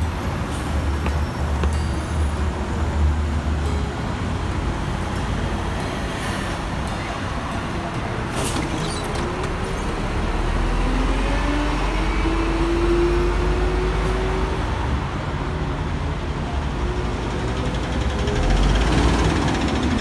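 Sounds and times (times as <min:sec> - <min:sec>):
bus whine moving off: 0:00.0 - 0:20.0
road traffic roar: 0:00.0 - 0:20.0.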